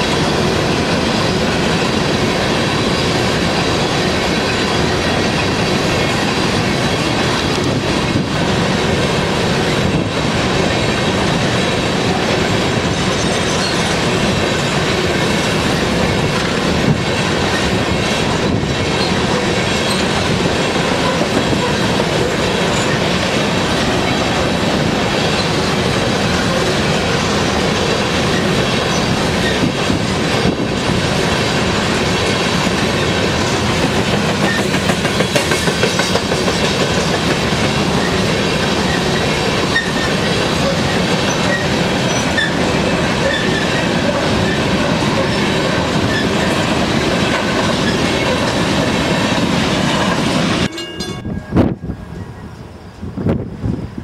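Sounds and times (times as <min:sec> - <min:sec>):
freight train rolling on rails: 0:00.0 - 0:54.0.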